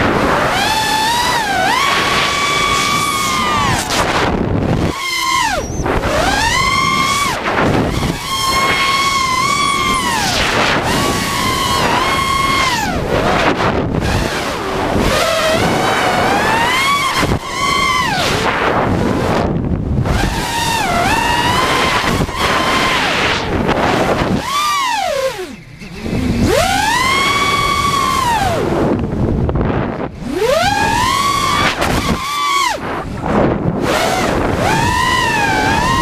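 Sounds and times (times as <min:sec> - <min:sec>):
drone motors whining: 0:00.0 - 0:36.0
wind rushing: 0:00.0 - 0:36.0.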